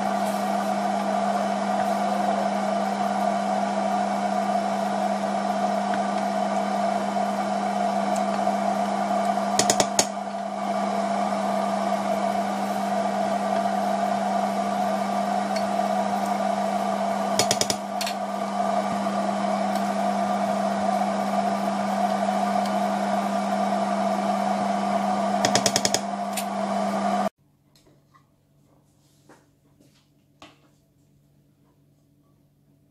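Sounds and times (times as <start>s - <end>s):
fan whirring with low hum: 0.0s - 27.3s.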